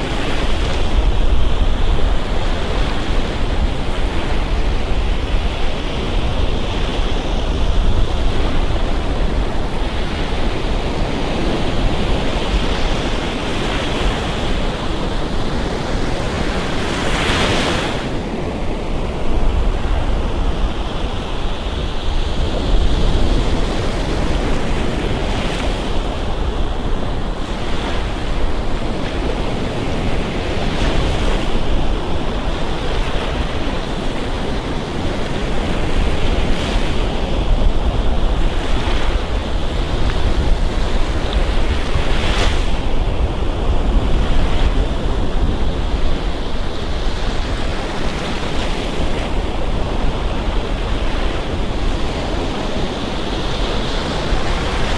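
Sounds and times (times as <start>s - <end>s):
ocean surf rushing: 0.0s - 54.9s
waves breaking: 0.0s - 54.9s.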